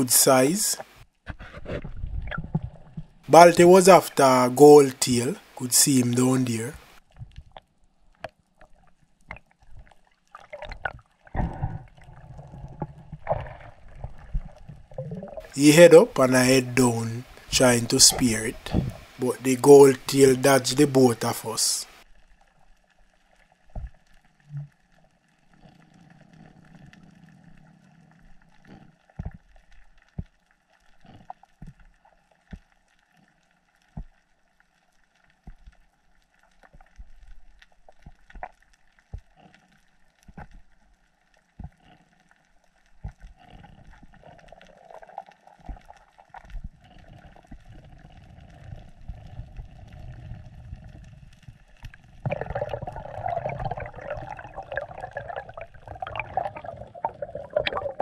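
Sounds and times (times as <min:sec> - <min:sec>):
muffled underwater water movement: 0:00.0 - 0:58.0.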